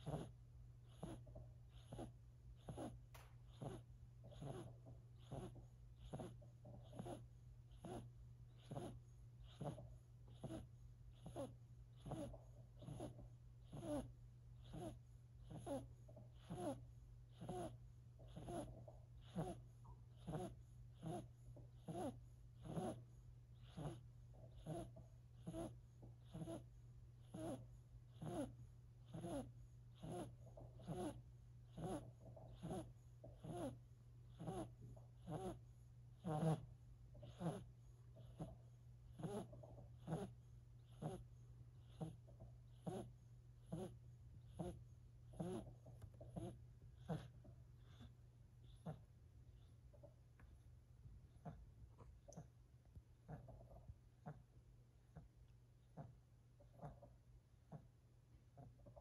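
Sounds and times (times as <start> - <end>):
kitten snoring: 0.0 - 35.6, 36.2 - 49.7
steady low hum: 0.0 - 59.0.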